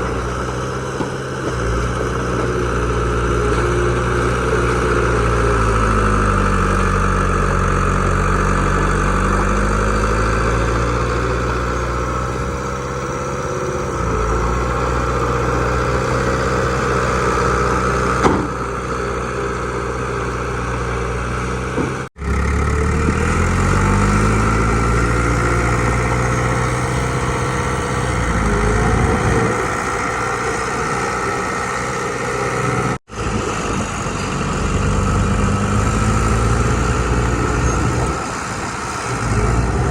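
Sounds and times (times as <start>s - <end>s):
diesel engine under varying load: 0.0s - 39.9s.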